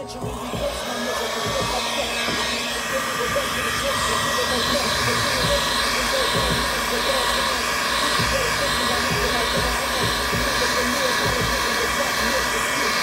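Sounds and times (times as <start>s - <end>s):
heat gun fan blowing: 0.0s - 13.0s.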